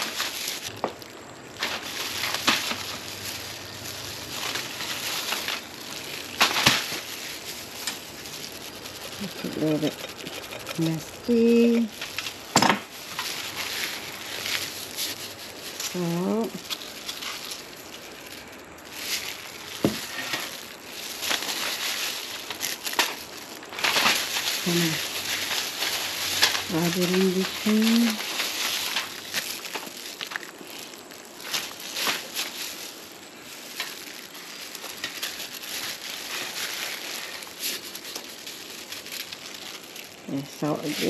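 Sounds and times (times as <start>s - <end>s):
banana leaves rustling and crinkling: 0.0s - 41.0s
salt scraping on fish: 1.7s - 41.0s.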